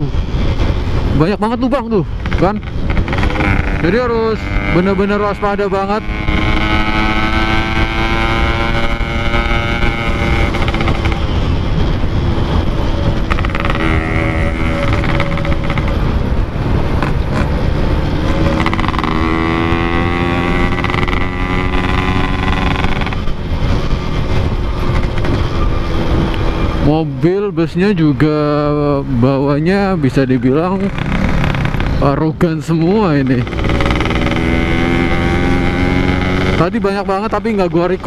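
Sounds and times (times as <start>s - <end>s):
two-stroke motorcycle riding: 0.0s - 38.0s.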